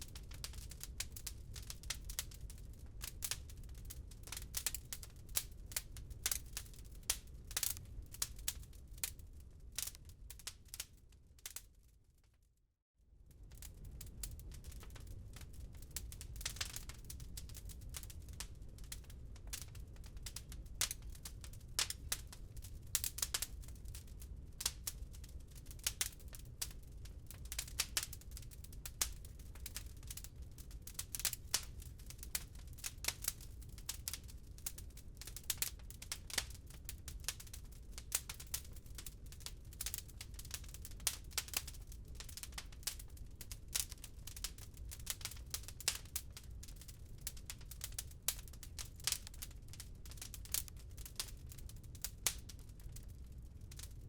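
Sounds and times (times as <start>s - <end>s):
wood fire crackling: 0.0s - 12.0s, 13.3s - 54.0s.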